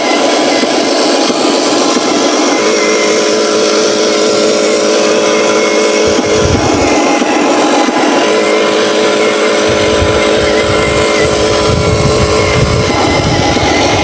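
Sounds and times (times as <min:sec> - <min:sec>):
toy truck motor whirring: 0:00.0 - 0:14.0.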